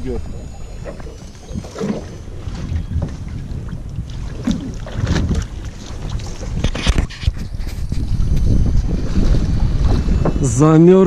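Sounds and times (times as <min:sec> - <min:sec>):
water against boat hull: 0:00.0 - 0:11.0
wind buffeting microphone: 0:00.0 - 0:11.0.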